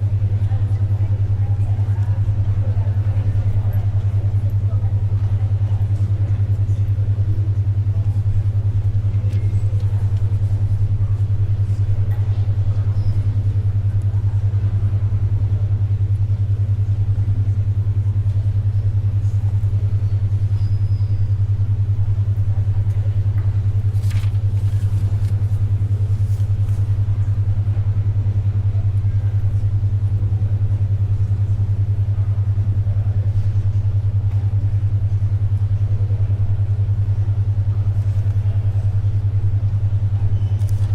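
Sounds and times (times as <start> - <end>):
faint library background noise: 0.0 - 40.9
pulsing low hum tone: 0.0 - 40.9.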